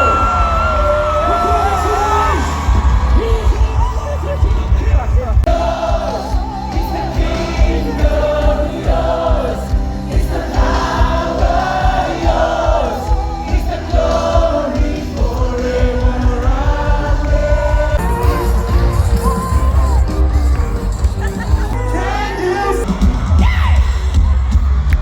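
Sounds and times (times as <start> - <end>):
choir singing gospel: 0.0 - 23.2
music with heavy bass: 0.0 - 25.0.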